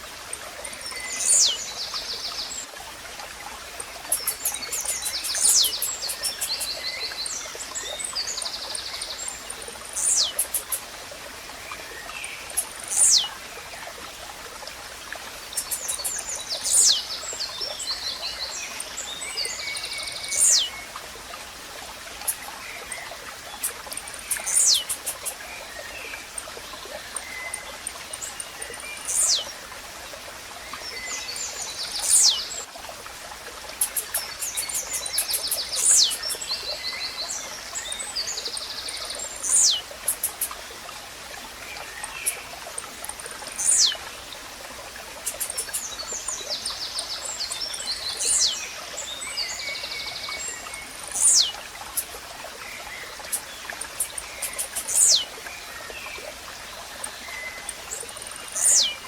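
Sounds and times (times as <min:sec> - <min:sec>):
running stream: 0:00.0 - 0:59.0.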